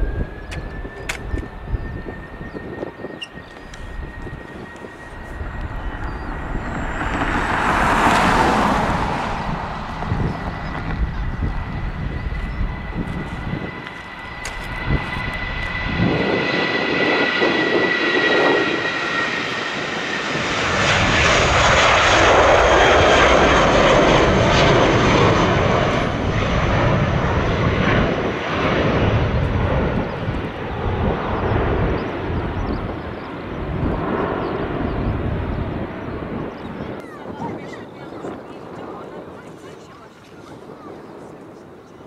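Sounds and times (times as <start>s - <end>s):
jet engines taking off: 0.0s - 42.0s.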